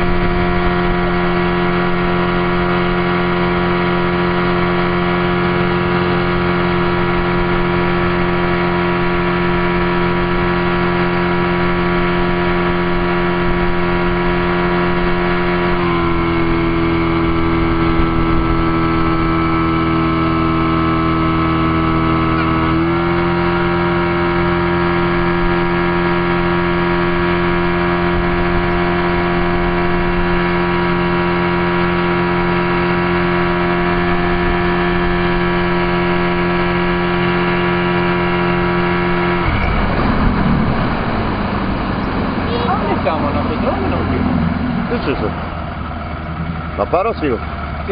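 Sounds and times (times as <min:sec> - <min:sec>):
motorboat engine running: 0:00.0 - 0:47.9.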